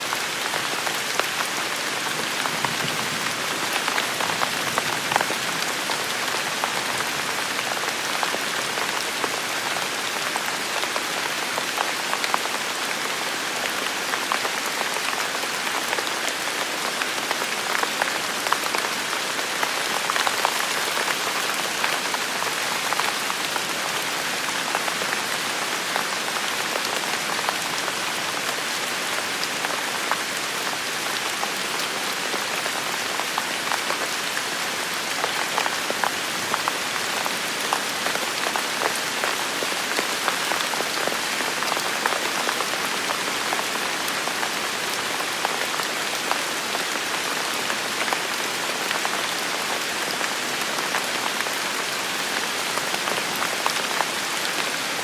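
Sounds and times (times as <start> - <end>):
rain on a hard surface: 0.0 - 55.0.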